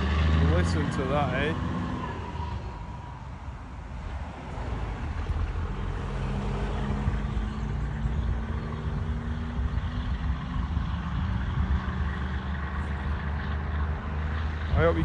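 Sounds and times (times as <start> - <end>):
diesel truck engine running: 0.0 - 4.0, 4.7 - 15.0.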